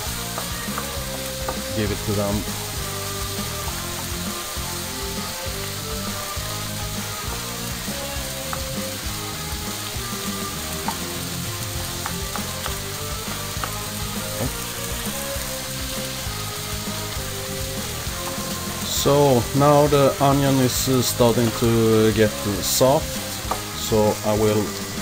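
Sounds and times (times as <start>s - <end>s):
bacon and onion sizzling in a pan: 0.0s - 25.0s.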